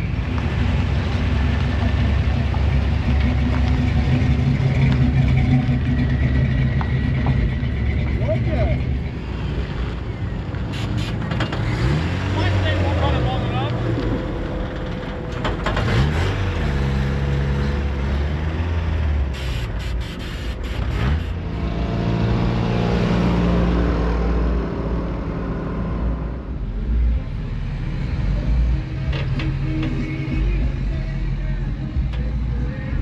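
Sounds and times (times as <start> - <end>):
truck engines rumbling: 0.0 - 33.0.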